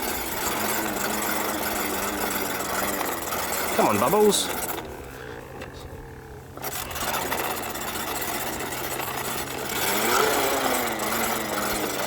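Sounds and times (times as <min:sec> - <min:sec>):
toy motor whirring and rattling: 0:00.0 - 0:04.9, 0:06.6 - 0:12.0.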